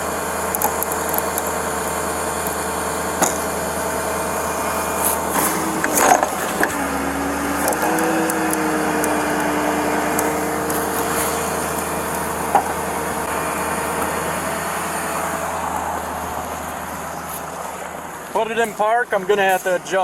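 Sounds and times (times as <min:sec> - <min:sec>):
truck engine running: 0:00.0 - 0:20.0
winch humming under load: 0:00.0 - 0:20.0.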